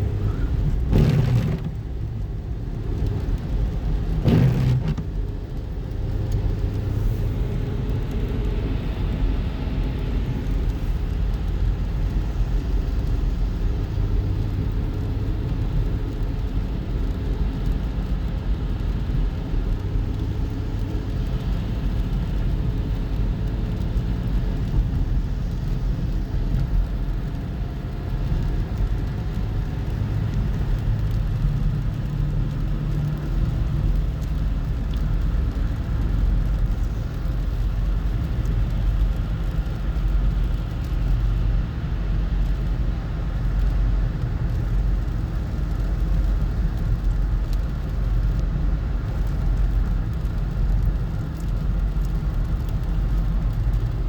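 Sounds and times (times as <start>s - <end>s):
car road noise from cabin: 0.0s - 54.0s.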